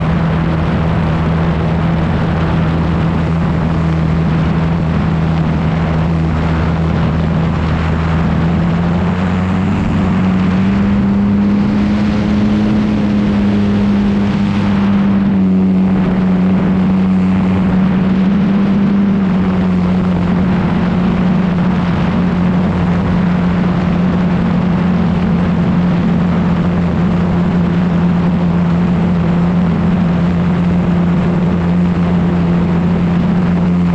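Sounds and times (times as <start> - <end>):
aircraft engine and propeller: 0.0 - 33.9
wind rushing over microphone: 0.0 - 33.9.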